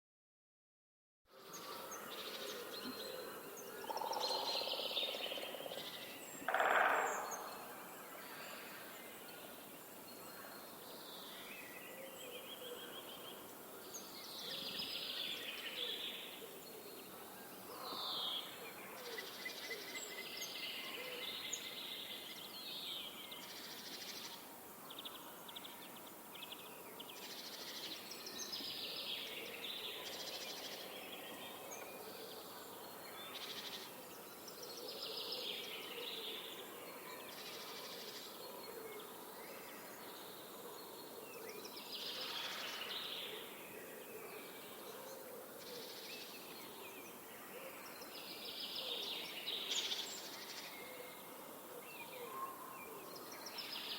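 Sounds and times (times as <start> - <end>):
wild birds singing: 1.3 - 53.9.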